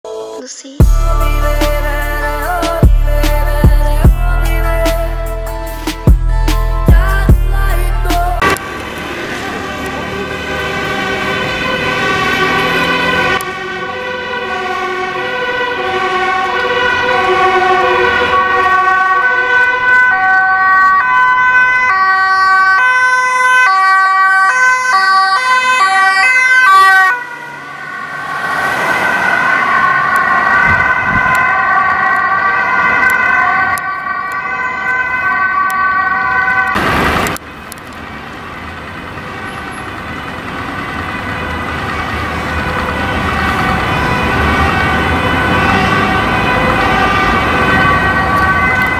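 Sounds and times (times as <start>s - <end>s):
traffic noise: 0.8s - 48.9s
two-tone ambulance siren: 8.4s - 48.9s.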